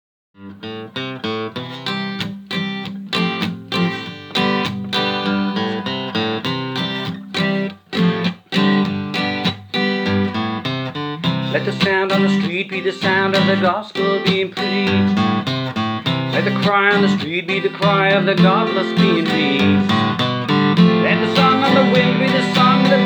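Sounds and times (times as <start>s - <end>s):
guitar strumming chords: 0.4s - 23.0s.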